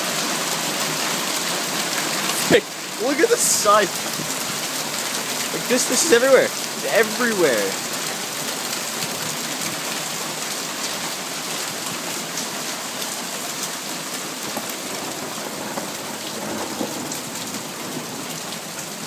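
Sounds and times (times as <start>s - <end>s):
heavy rain hissing: 0.0s - 19.0s
hailstones ticking: 0.6s - 19.0s.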